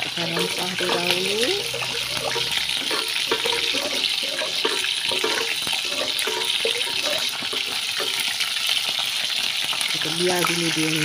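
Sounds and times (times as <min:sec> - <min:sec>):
spice paste bubbling and sizzling: 0:00.0 - 0:11.0.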